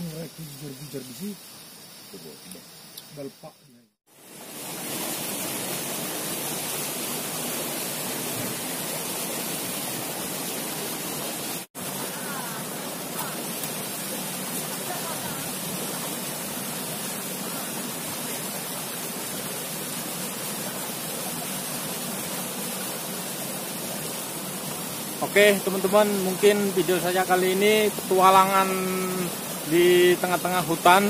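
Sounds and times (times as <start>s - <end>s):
waterfall rushing: 4.1s - 31.0s.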